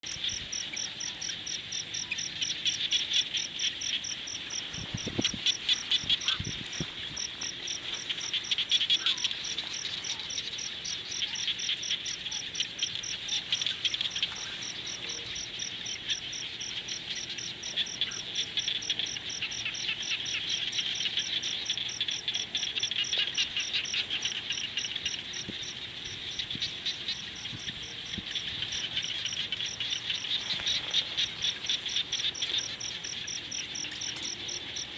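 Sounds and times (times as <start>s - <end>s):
cricket chirping: 0.0s - 34.9s
insects trilling chorus: 0.0s - 34.9s.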